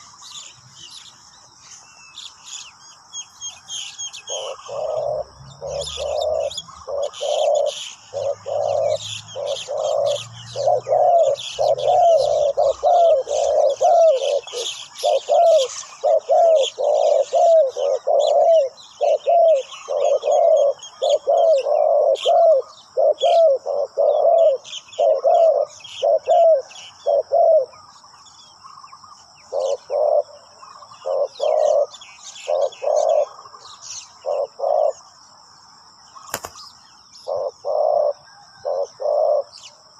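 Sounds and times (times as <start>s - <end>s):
small birds chirping: 0.0s - 39.9s
doves cooing: 3.7s - 27.9s, 29.0s - 35.2s, 37.2s - 39.8s.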